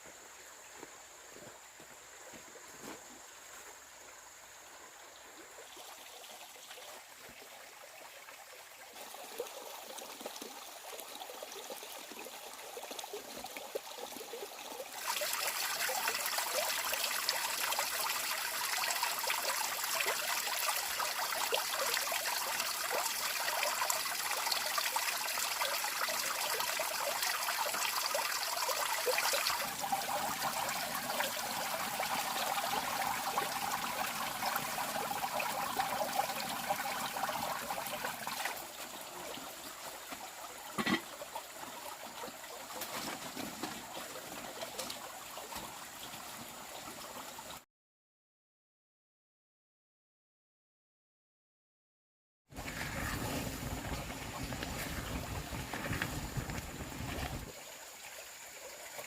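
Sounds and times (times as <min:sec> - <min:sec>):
water running and trickling: 0:05.3 - 0:47.6, 0:52.5 - 0:59.0.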